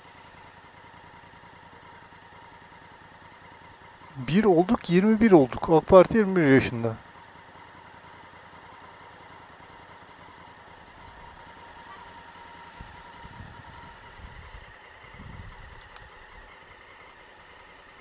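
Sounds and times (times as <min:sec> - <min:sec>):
motorcycle engine idling: 0:00.0 - 0:18.0
motorcycle pulling away: 0:00.0 - 0:18.0.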